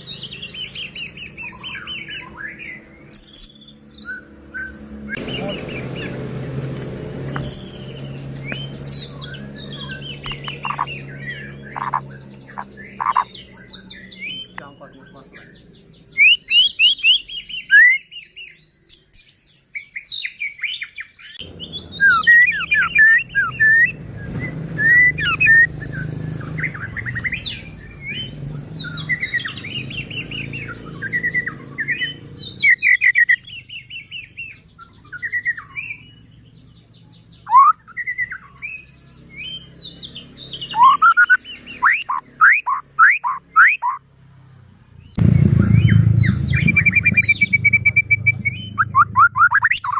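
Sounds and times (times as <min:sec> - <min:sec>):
songbird whistling: 0:00.0 - 0:14.8, 0:16.0 - 0:36.3, 0:37.3 - 0:44.0, 0:45.1 - 0:49.9.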